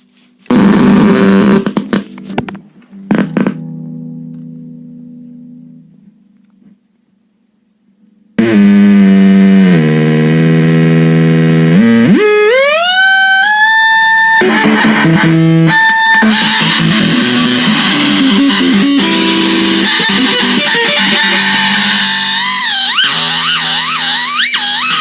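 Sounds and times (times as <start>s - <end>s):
electric guitar through effects: 0.1s - 6.8s, 8.4s - 25.0s.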